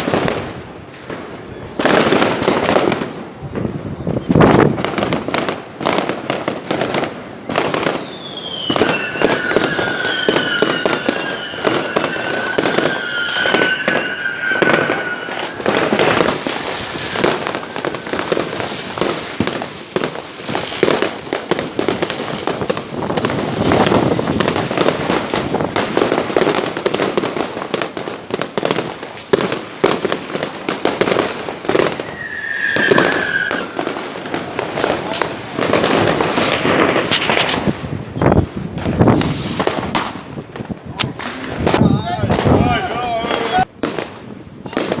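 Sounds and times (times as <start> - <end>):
firework whistles: 0.0 - 5.6, 7.3 - 38.3, 39.0 - 40.2
fireworks crackling and banging: 0.0 - 45.0.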